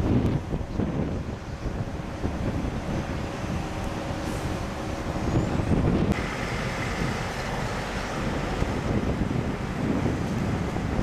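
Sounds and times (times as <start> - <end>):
wind blowing across microphone: 0.0 - 11.0.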